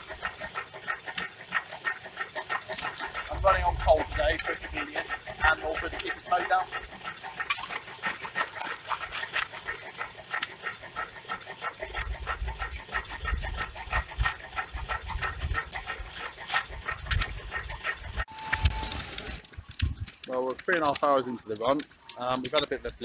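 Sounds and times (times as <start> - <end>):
engine generator clattering: 0.0 - 23.0.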